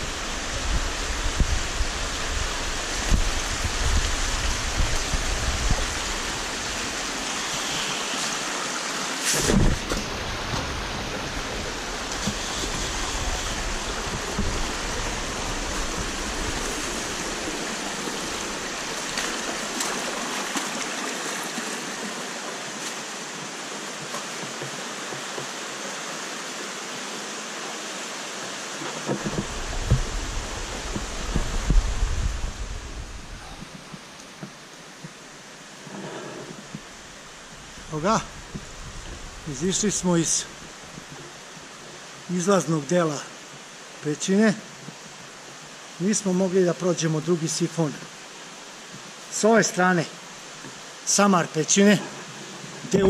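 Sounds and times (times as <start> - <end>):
stream running over rocks: 0.0 - 53.0.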